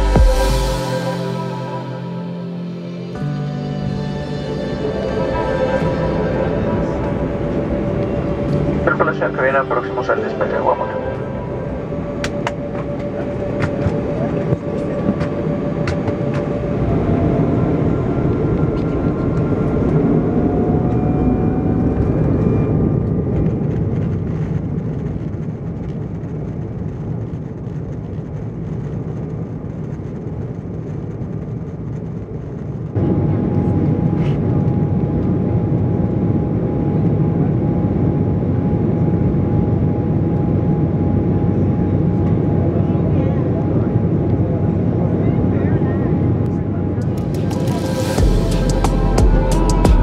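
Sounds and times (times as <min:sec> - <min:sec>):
jet engine whine in cabin: 0:04.2 - 0:48.4
rumble of rolling on runway: 0:05.3 - 0:49.1.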